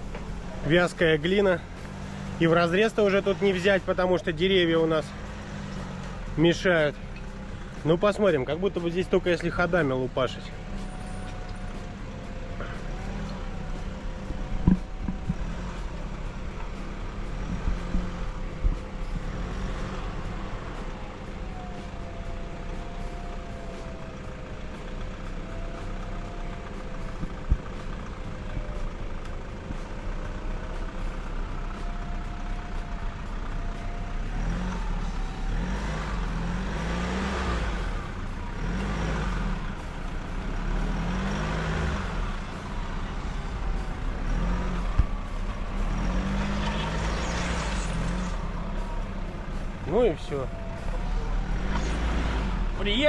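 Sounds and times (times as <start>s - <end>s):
engine revving in surges: 0.0s - 53.0s.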